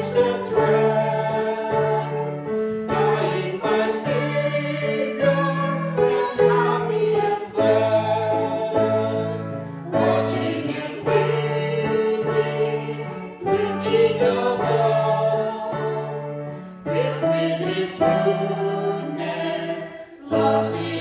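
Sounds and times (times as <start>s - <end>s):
group singing in harmony: 0.0s - 21.0s
piano: 0.0s - 21.0s.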